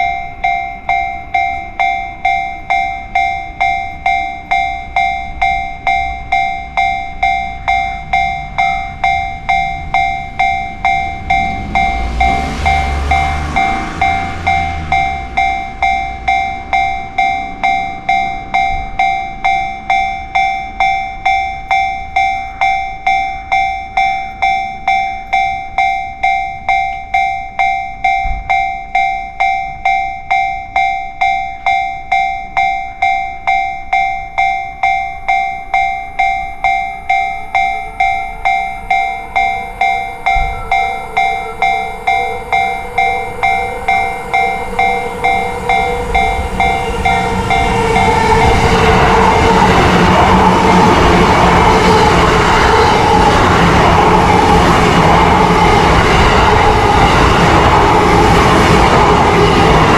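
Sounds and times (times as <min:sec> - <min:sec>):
train rushing rumble: 0:00.0 - 0:26.8, 0:36.2 - 0:59.9
level crossing alarm ringing: 0:00.0 - 0:59.9.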